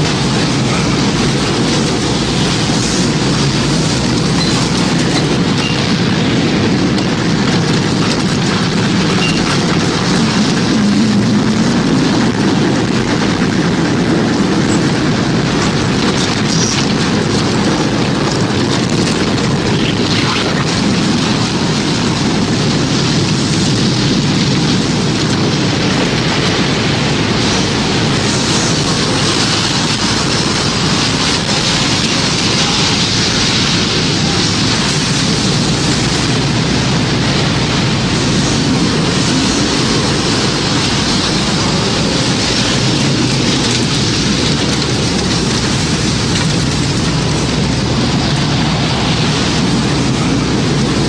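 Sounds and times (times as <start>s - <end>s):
heavy rain: 0.0s - 51.0s
rushing storm wind: 0.0s - 51.0s.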